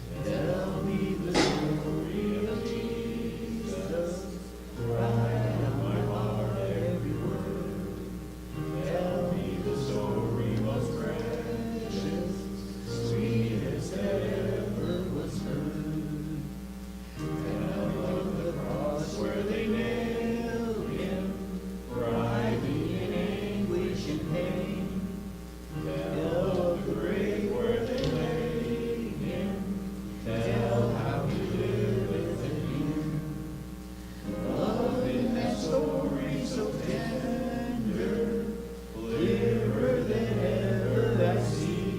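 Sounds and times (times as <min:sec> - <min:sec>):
group singing a hymn: 0:00.0 - 0:41.9.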